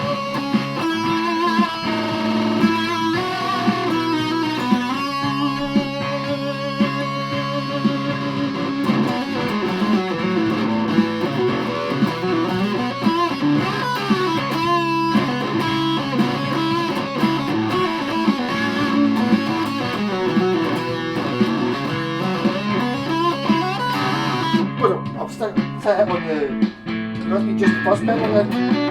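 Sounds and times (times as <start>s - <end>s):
fuzz electric guitar: 0.0s - 28.9s.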